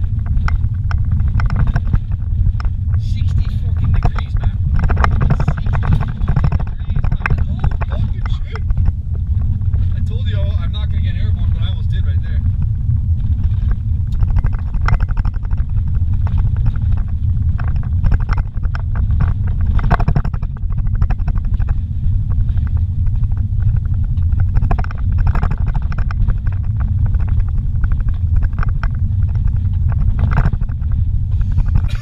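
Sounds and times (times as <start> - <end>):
car engine and tyre rumble: 0.0 - 32.0
knocks and rattles in car: 0.0 - 32.0.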